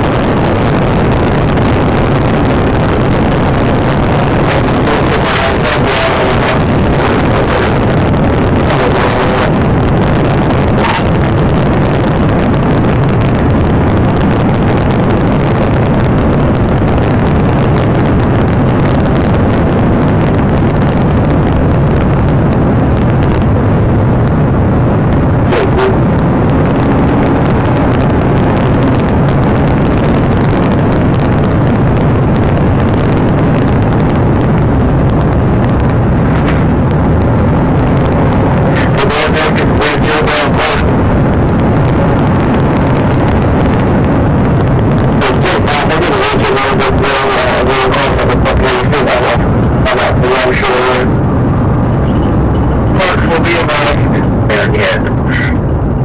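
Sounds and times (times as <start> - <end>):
car engine driving fast: 0.0 - 56.0.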